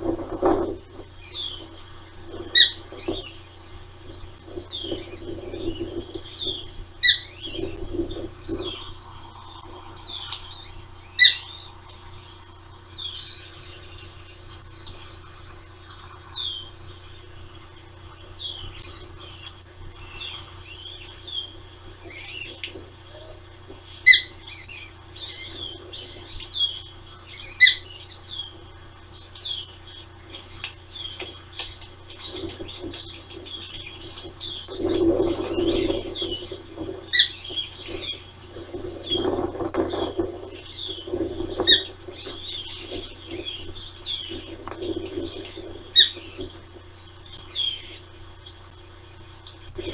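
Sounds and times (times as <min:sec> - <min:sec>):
ospreys whistled chirps: 0:04.5 - 0:49.9.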